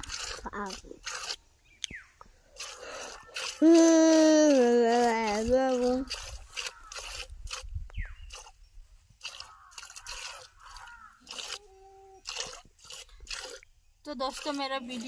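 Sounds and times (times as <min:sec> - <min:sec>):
milk squirting into plastic bucket: 0:00.0 - 0:08.5, 0:09.2 - 0:15.0.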